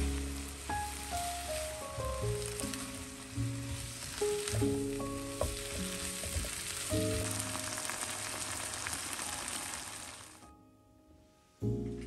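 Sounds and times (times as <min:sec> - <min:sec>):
food sizzling in a wok: 0:00.0 - 0:10.4
soft background music: 0:00.0 - 0:12.0.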